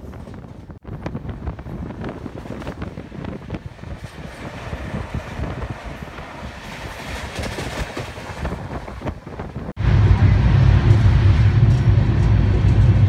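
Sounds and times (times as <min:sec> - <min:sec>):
train wheels rattling on track: 0:00.0 - 0:13.0
wind rushing past microphone: 0:00.0 - 0:13.0.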